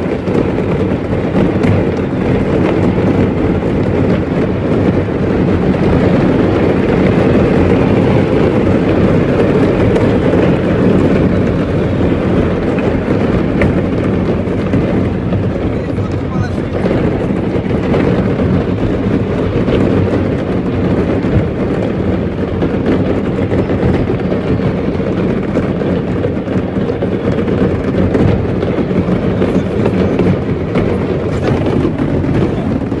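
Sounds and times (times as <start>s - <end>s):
fireworks crackling and banging: 0.0s - 33.0s
low rumble: 0.0s - 33.0s.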